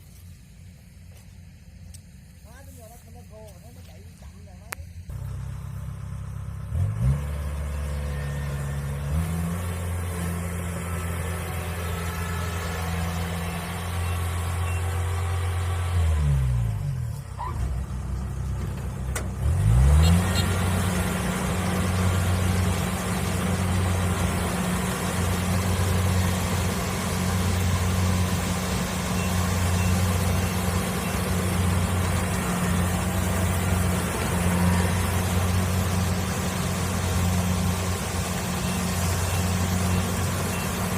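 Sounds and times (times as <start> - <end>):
combine harvester diesel engine: 0.0 - 40.9.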